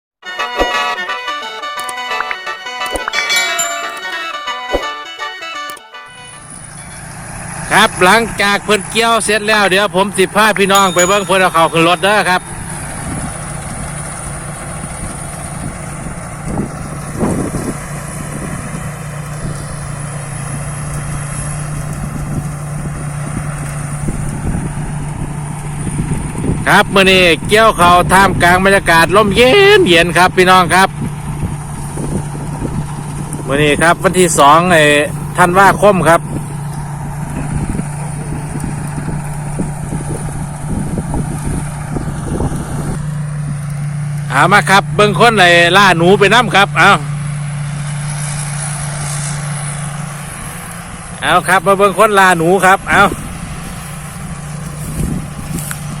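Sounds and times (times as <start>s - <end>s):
harvester engine droning: 0.2s - 56.0s.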